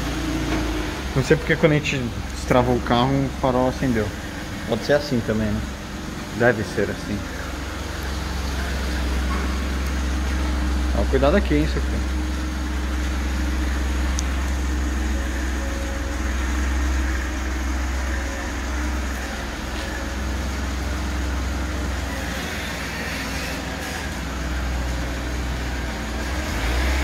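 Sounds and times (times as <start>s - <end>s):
car engine humming: 0.0s - 27.0s.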